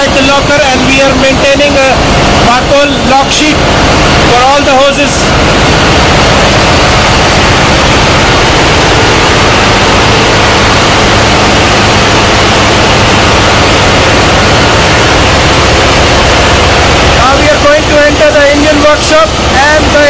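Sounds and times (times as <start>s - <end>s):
engine room machinery roar: 0.0s - 20.0s
low hum: 0.0s - 20.0s.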